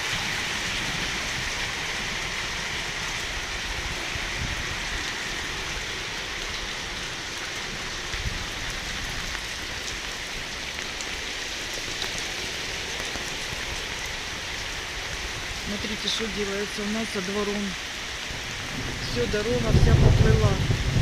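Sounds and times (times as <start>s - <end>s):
heavy rain on water: 0.0s - 21.0s.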